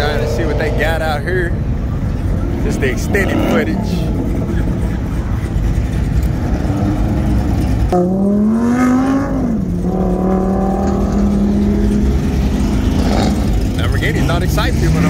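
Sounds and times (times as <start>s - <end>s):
car engines rumbling: 0.0s - 15.0s
engine revving: 0.0s - 15.0s.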